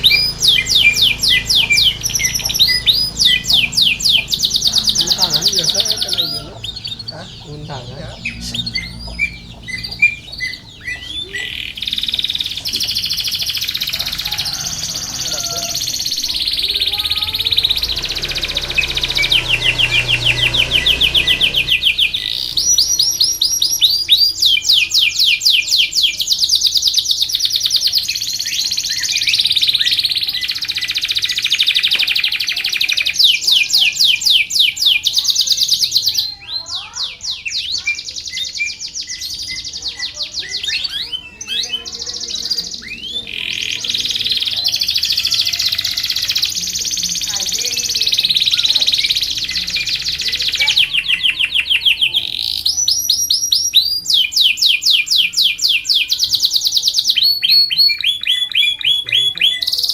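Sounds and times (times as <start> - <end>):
canary singing rolling trills: 0.0 - 59.9.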